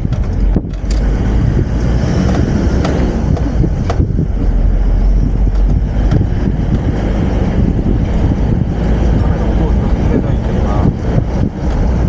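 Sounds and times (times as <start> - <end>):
engine and road rumble: 0.0 - 12.0
wind noise: 0.0 - 12.0.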